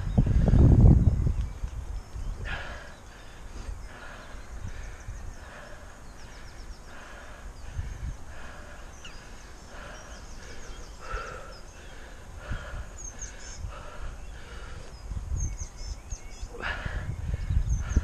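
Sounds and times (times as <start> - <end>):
small birds chirping: 0.0 - 18.0
wind rumble on microphone: 0.0 - 18.0.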